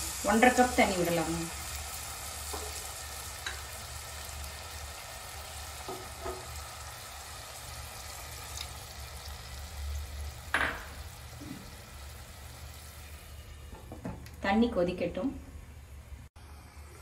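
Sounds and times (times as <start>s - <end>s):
vegetables sizzling in a pan: 0.0s - 14.2s.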